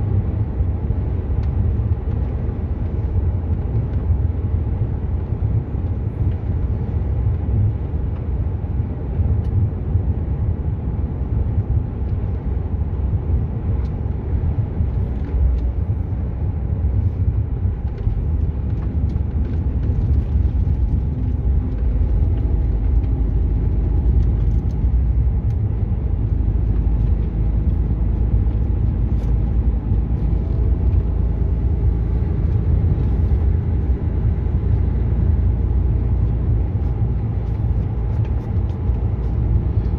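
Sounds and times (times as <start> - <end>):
lorry engine and tyre rumble: 0.0 - 39.9.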